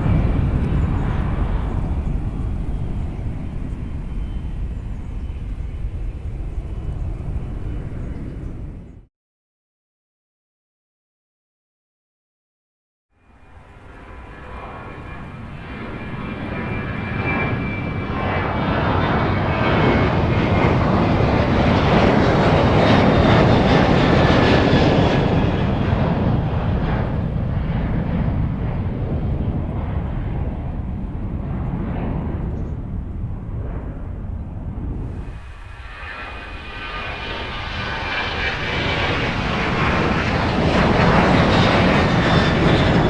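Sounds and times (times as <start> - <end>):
jet engines at takeoff power: 0.0 - 9.1, 13.3 - 43.0.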